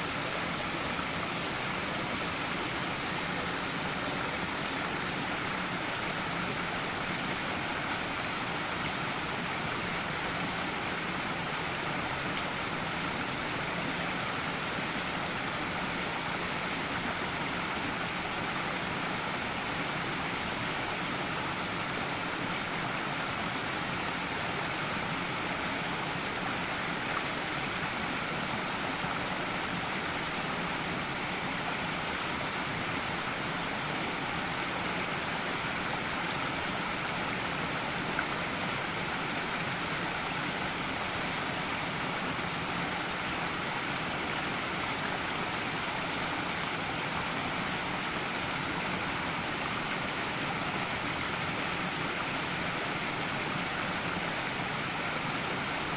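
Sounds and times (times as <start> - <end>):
stream splashing over rocks: 0.0 - 55.9.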